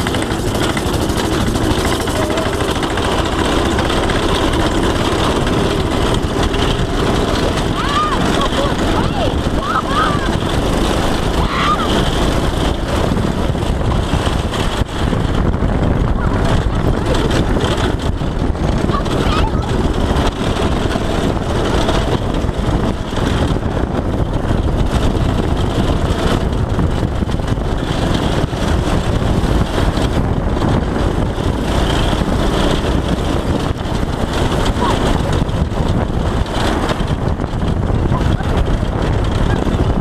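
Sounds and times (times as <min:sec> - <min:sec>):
go-kart engine running: 0:00.0 - 0:40.0.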